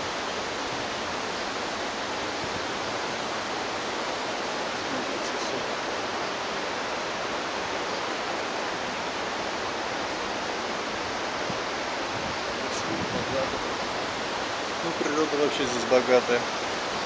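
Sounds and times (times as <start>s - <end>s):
white-water river rushing: 0.0s - 17.0s.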